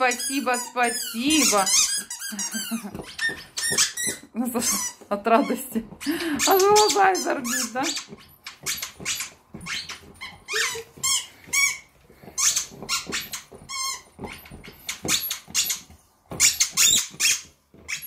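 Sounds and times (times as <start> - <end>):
dog chewing: 0.0 - 18.0
squeaky dog toy squeaking: 0.0 - 18.0.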